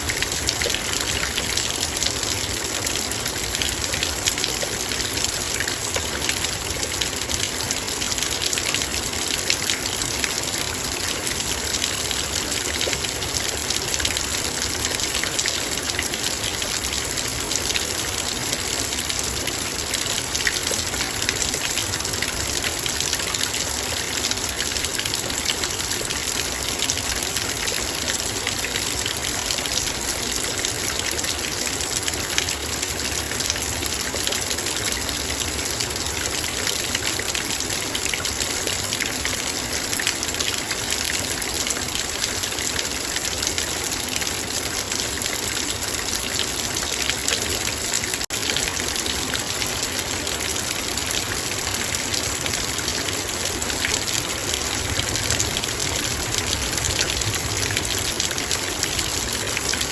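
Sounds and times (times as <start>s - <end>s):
rain pattering on a metal bowl: 0.0s - 59.9s.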